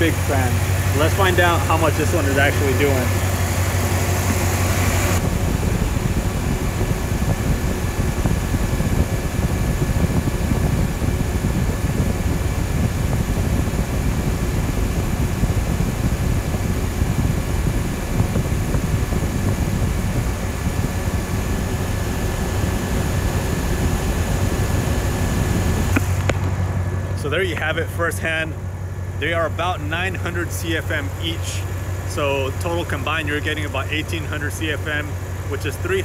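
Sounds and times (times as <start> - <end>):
airflow buffeting microphone: 0.0 - 36.0
electric cooling fans rushing: 0.0 - 36.0.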